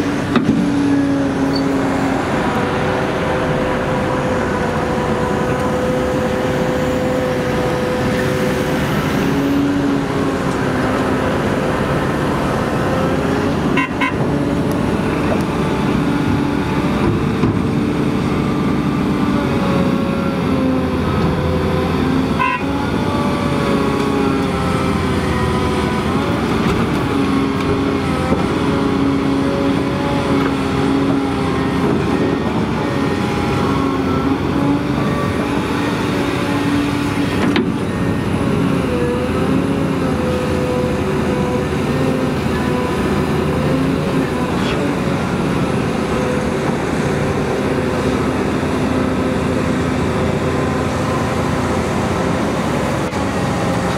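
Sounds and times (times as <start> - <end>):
excavator diesel engine whining: 0.0 - 53.9.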